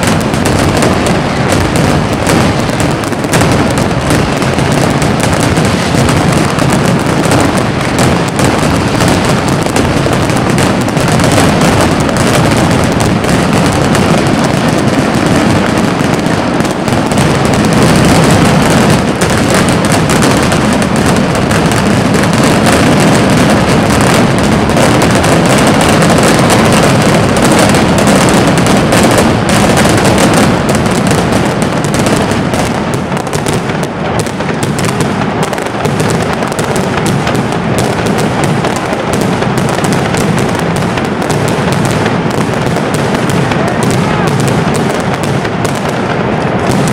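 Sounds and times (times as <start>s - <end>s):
firecrackers exploding in a barrage: 0.0s - 46.9s.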